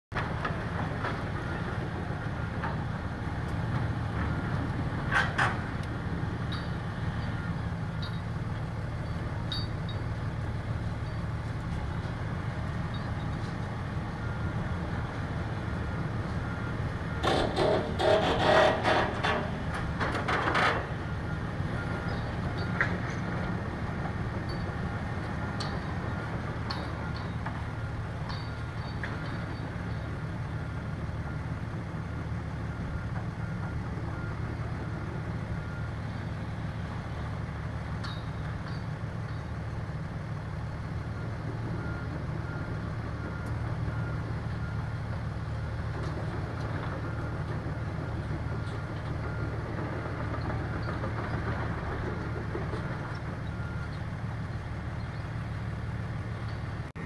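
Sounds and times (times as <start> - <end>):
excavator diesel engines running: 0.1 - 57.0.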